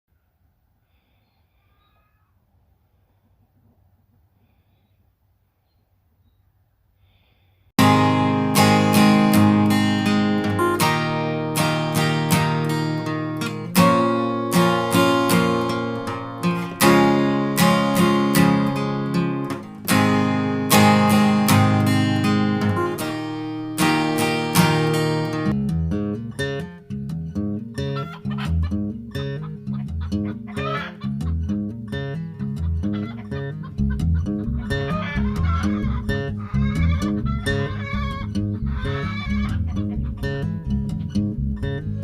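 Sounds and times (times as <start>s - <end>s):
acoustic guitar strumming: 7.8s - 42.0s.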